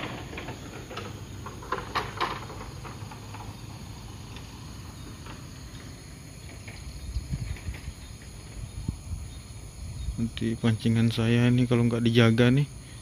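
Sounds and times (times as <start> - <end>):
crickets and insects chirring: 0.0 - 13.0.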